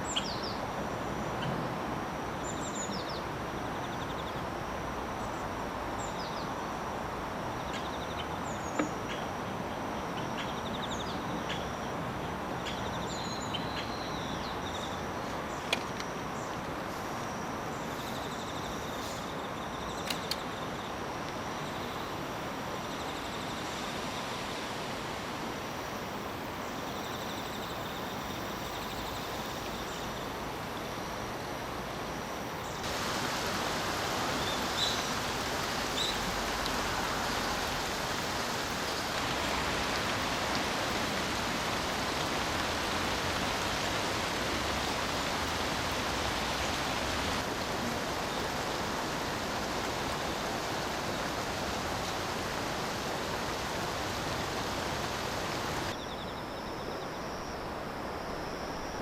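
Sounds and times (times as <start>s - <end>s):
insects chirping: 2.2s - 59.0s.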